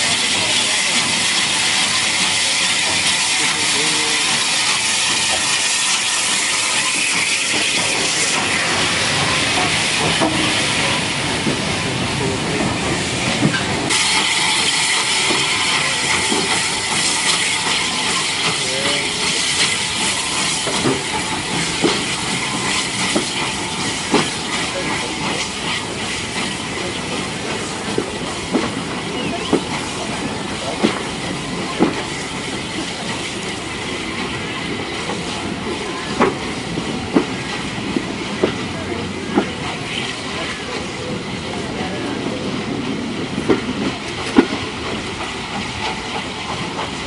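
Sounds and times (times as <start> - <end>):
steam hissing: 0.0 - 47.0
train wheels knocking on rail joints: 6.7 - 47.0.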